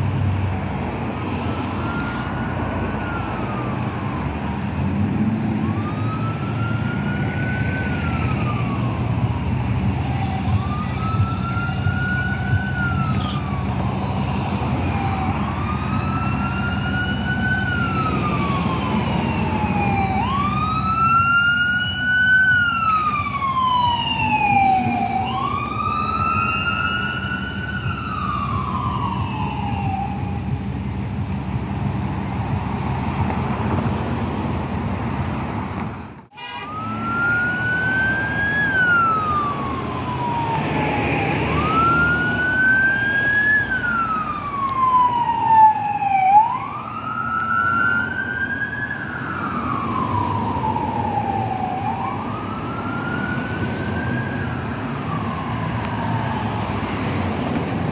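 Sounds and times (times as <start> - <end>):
emergency siren wailing: 0.0 - 34.9, 36.2 - 57.9
idling traffic rumble: 0.0 - 57.9.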